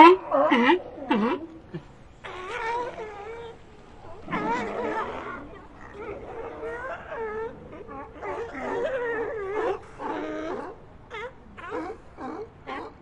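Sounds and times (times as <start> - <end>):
sea lions barking: 0.0 - 13.0.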